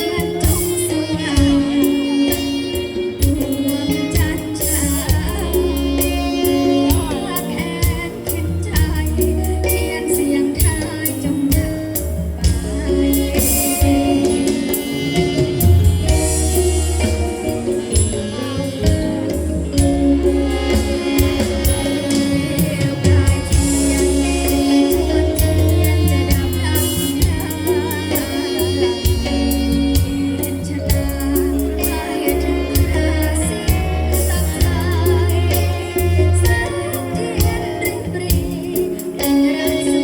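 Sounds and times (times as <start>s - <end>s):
band with deep bass and percussion: 0.0s - 40.0s
person singing: 0.0s - 40.0s.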